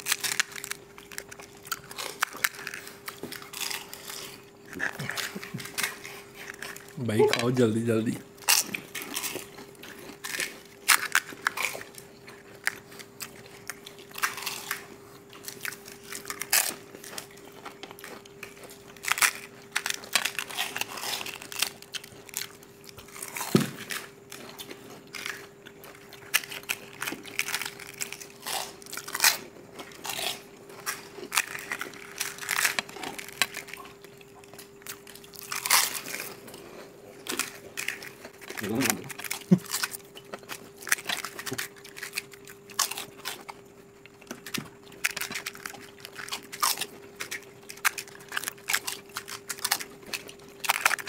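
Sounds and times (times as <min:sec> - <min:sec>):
faint steady hum: 0:00.0 - 0:51.0
people crunching crisp shells: 0:00.0 - 0:51.0.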